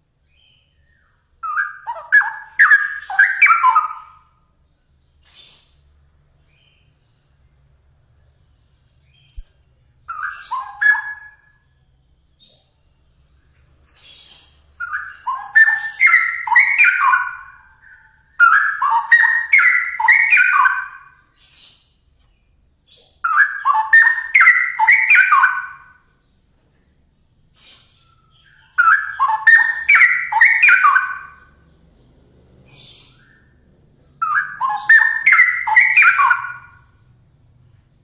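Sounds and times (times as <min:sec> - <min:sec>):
bird singing warbled phrases: 0:00.0 - 0:38.0.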